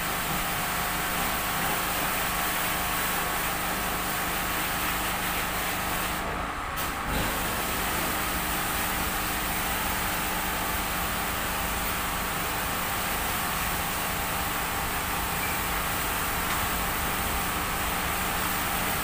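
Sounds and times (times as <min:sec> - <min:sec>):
pressure washer spraying water: 0:00.0 - 0:06.2, 0:06.8 - 0:19.0.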